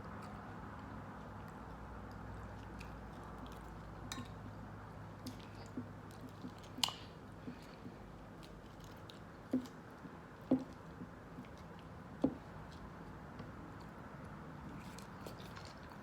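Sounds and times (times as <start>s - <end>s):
chewing crunchy salad: 0.0s - 16.0s.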